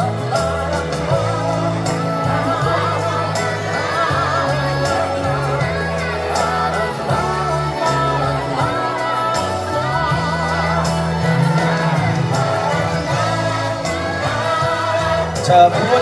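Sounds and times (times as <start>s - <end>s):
bass line: 0.0s - 16.0s
drum beats: 0.0s - 16.0s
woman singing pop song: 0.0s - 16.0s.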